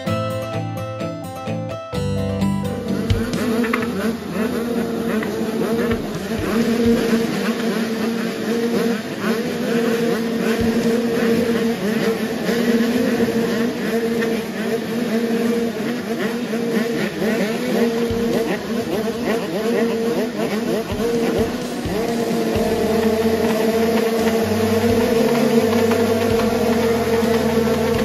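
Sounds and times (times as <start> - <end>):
motocross bike engines revving: 2.8 - 28.0.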